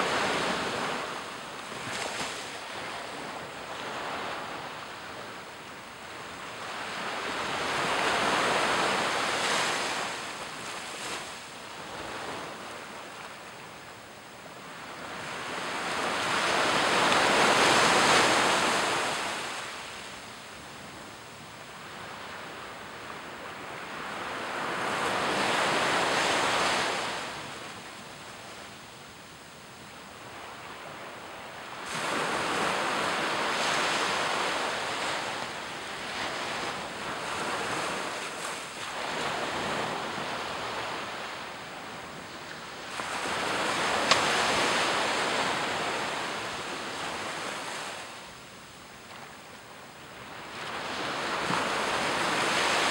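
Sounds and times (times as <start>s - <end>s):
waves washing up a beach: 0.0s - 52.9s.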